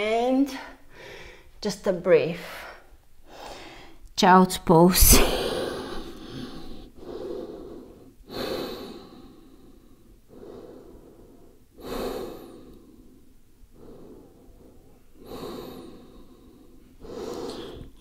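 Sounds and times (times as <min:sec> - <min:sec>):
woman breathing slowly: 0:00.6 - 0:01.6, 0:02.4 - 0:04.1, 0:05.3 - 0:18.0.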